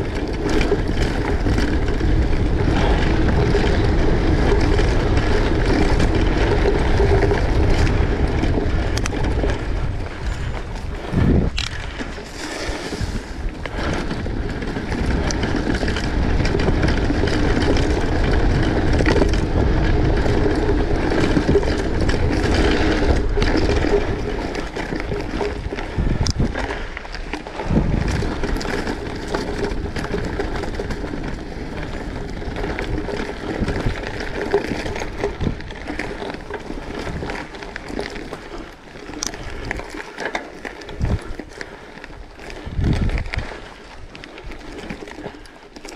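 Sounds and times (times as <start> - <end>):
small clicks and rattles: 0.0 - 45.9
tyres crunching over rough track: 0.0 - 45.9
wind buffeting microphone: 0.0 - 45.9.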